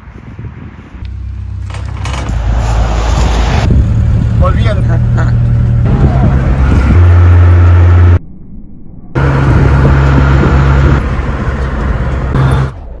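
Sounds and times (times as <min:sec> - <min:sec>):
road noise: 0:00.0 - 0:08.3, 0:09.1 - 0:13.0
pickup truck engine drone: 0:01.0 - 0:08.3, 0:09.1 - 0:13.0.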